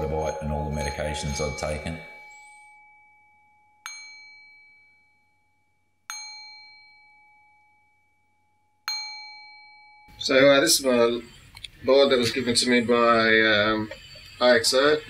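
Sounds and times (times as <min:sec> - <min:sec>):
metal chime ringing: 0:00.0 - 0:15.0.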